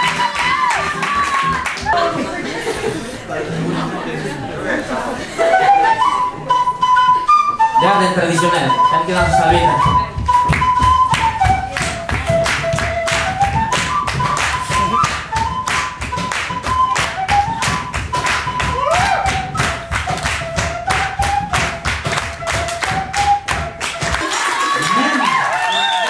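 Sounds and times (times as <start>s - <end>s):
flute melody: 0.0s - 2.0s, 5.3s - 26.0s.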